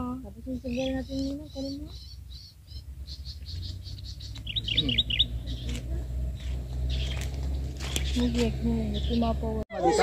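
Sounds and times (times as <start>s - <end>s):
low steady rumble: 0.0s - 9.6s
small birds chirping: 0.0s - 9.6s.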